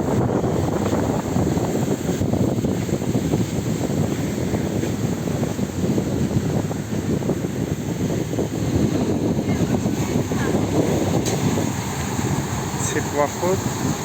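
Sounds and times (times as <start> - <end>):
ship motor running: 0.0 - 14.0
wind buffeting microphone: 0.0 - 14.0.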